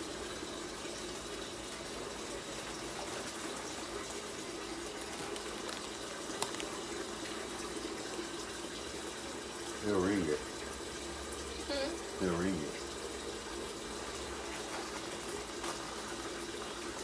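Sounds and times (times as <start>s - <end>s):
tap water running: 0.0s - 17.0s.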